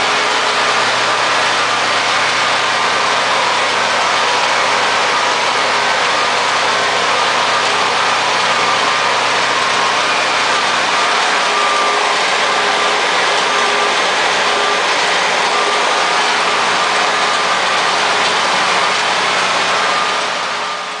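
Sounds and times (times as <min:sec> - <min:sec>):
spray foam machine running: 0:00.0 - 0:21.0.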